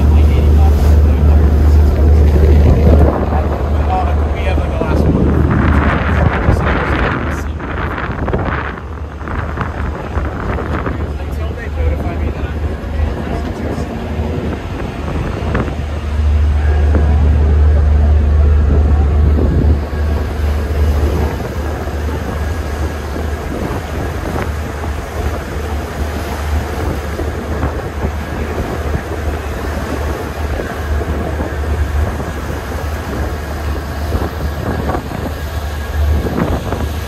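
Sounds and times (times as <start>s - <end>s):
ferry engine rumble: 0.0s - 37.0s
water rushing past boat: 0.0s - 37.0s
wind buffeting microphone: 0.0s - 37.0s.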